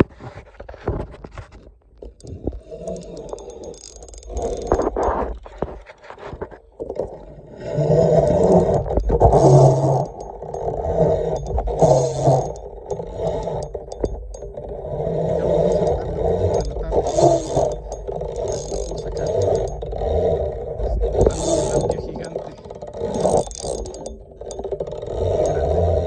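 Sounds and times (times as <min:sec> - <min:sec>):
fishing reel whirring: 0:02.0 - 0:05.8, 0:06.6 - 0:26.0.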